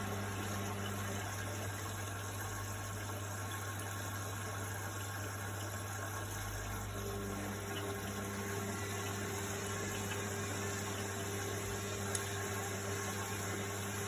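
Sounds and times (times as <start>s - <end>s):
washing machine hum: 0.0s - 14.0s.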